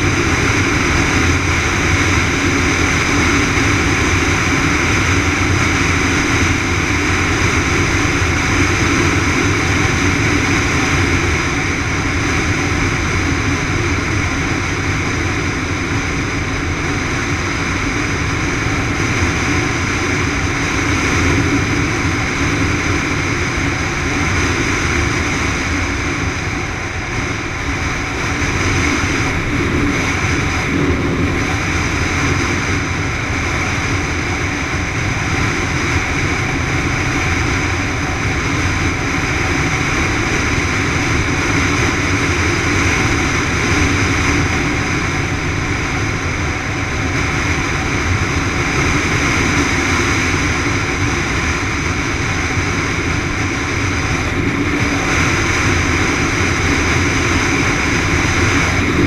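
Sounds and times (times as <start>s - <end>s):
motorcycle engine running: 0.0s - 59.0s
wind rushing: 0.0s - 59.0s.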